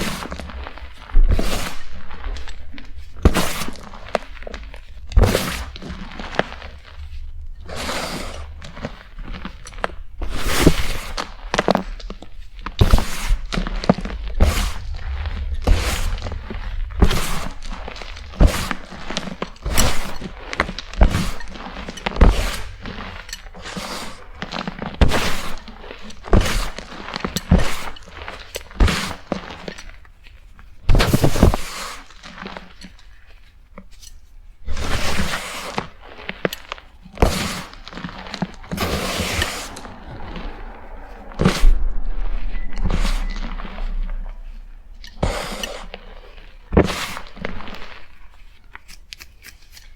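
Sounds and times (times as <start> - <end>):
chalk being crushed: 0.0 - 30.0, 34.7 - 41.6, 45.1 - 49.9.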